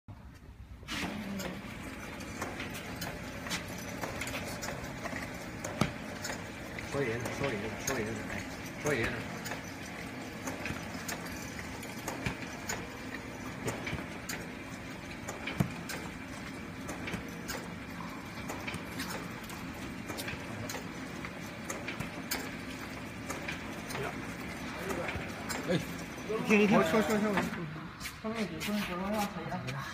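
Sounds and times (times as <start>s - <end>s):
machine humming and clacking: 0.3s - 28.4s.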